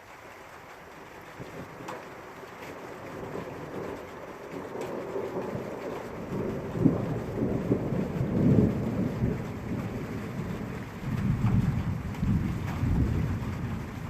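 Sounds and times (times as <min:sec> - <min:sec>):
steady rain: 0:00.0 - 0:14.0
thunder rumbling: 0:01.2 - 0:14.0.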